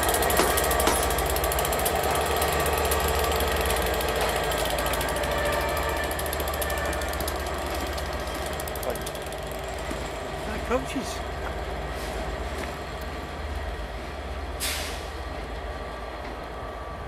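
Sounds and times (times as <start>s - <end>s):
diesel locomotive engine throbbing: 0.0s - 17.0s.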